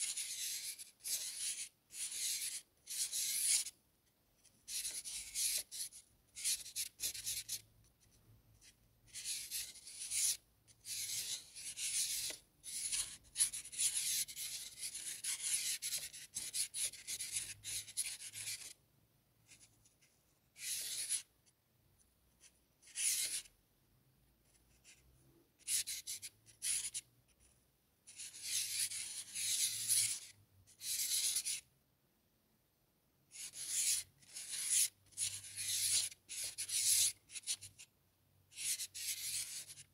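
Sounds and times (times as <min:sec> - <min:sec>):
marker scratching on paper: 0:00.0 - 0:03.8, 0:04.4 - 0:18.8, 0:19.5 - 0:21.3, 0:22.4 - 0:23.5, 0:24.4 - 0:31.7, 0:33.3 - 0:37.9, 0:38.5 - 0:39.9.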